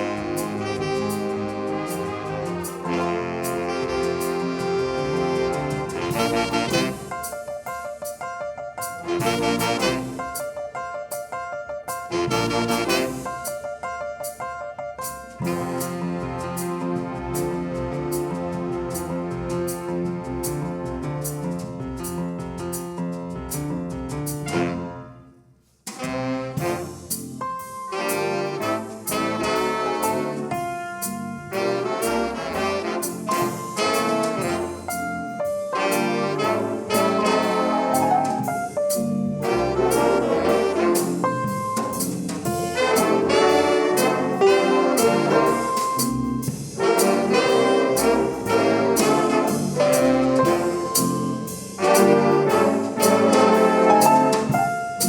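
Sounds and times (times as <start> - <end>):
punchy brass chords: 0.0 - 7.3, 9.0 - 10.4, 12.1 - 13.5, 15.4 - 20.8, 24.5 - 25.3, 25.9 - 55.0
swing band playing jazz: 0.0 - 25.2, 25.8 - 55.0.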